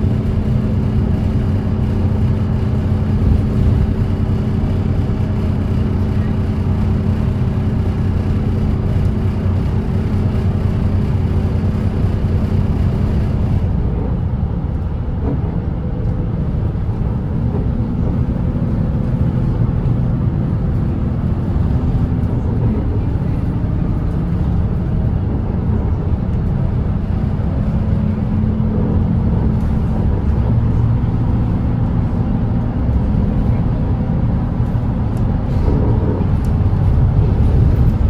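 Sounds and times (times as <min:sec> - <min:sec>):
bus diesel engine running: 0:00.0 - 0:38.0
tyre and road noise: 0:00.0 - 0:38.0.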